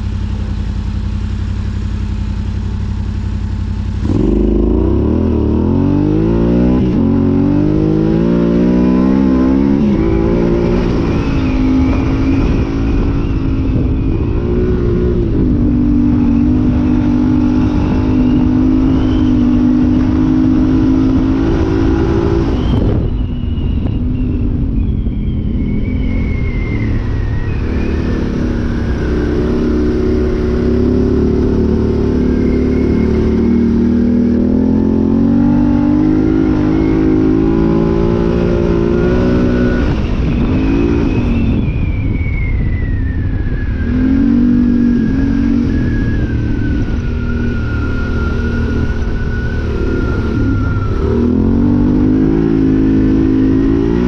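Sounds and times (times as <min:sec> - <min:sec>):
motorcycle engine revving: 0:00.0 - 0:42.3, 0:42.9 - 0:54.0.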